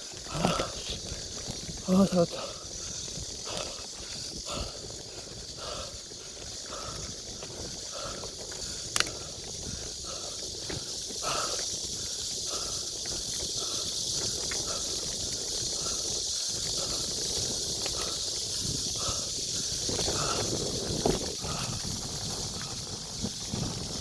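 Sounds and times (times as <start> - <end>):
bicycle riding on trail: 0.0 - 24.0
high-pitched hiss: 0.0 - 24.0.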